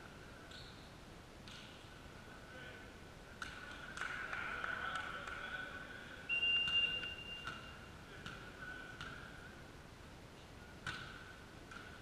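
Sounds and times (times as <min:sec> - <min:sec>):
echoing sports hall noise: 0:00.0 - 0:12.0.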